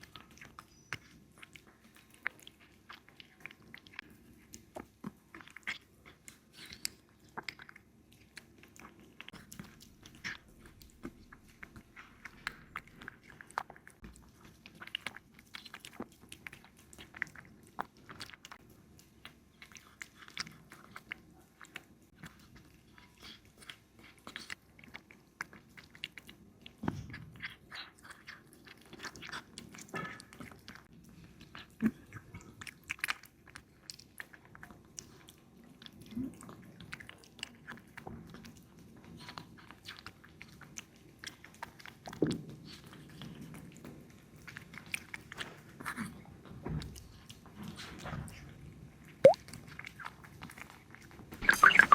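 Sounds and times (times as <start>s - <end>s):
kitten chewing meat: 0.0s - 51.9s.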